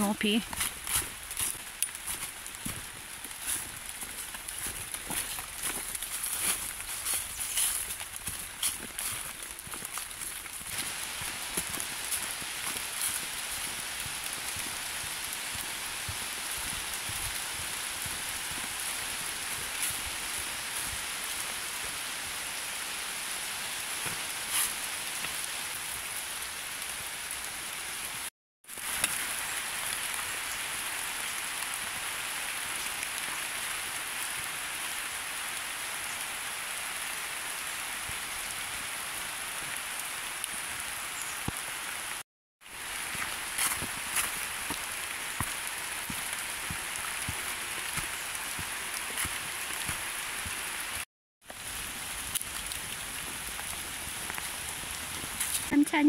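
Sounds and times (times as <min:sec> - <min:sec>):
rain on leaves: 0:00.0 - 0:56.0.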